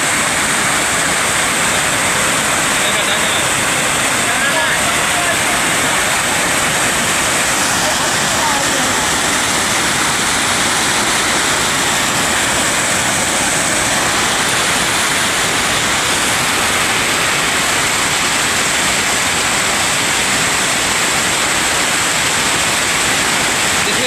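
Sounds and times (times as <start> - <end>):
fast-flowing floodwater rushing: 0.0 - 24.0.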